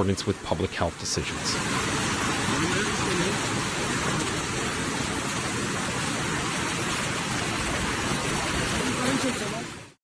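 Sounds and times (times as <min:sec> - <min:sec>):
rain pouring steadily: 0:00.0 - 0:10.0.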